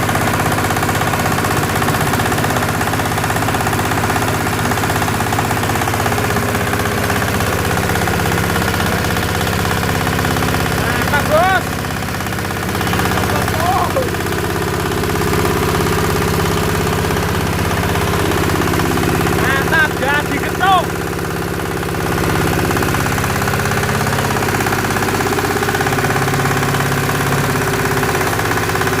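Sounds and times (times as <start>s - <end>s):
shredder engine running: 0.0s - 29.0s.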